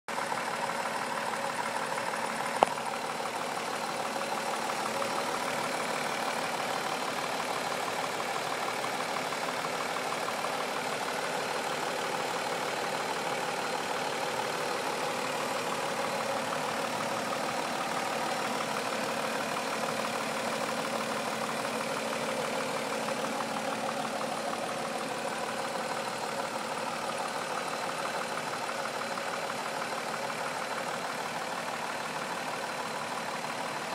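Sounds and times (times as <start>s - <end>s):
car engine idling rough: 0.1s - 33.9s
low engine knocking: 0.2s - 33.9s.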